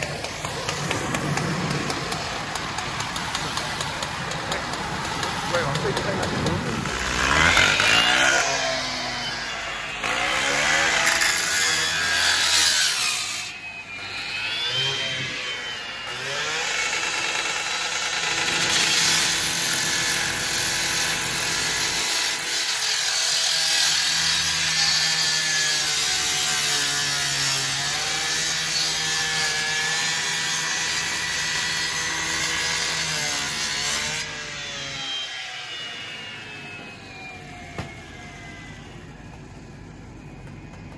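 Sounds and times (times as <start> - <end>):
rescue saw cutting sheet metal: 0.0 - 39.2.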